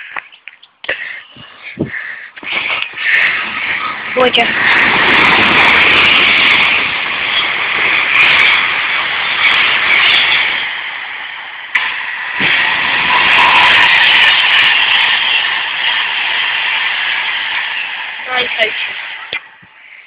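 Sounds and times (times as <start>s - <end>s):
trains passing at speed: 1.6s - 20.0s.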